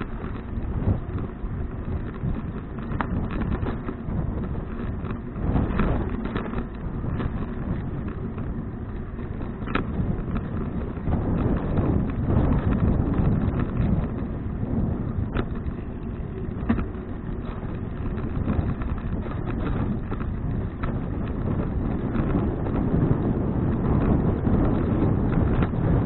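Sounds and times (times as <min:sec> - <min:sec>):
road rumble: 0:00.0 - 0:26.0
wind buffeting microphone: 0:00.0 - 0:26.0.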